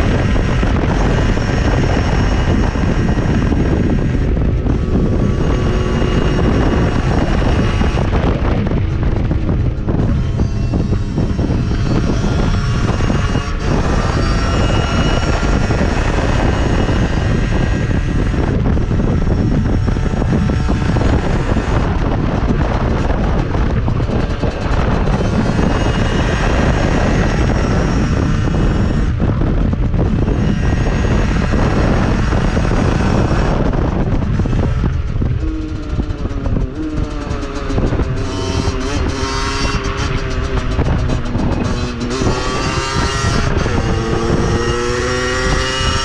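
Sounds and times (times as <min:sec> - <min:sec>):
dirt bike engine running: 0:00.0 - 0:46.0
wind rushing over microphone: 0:00.0 - 0:46.0.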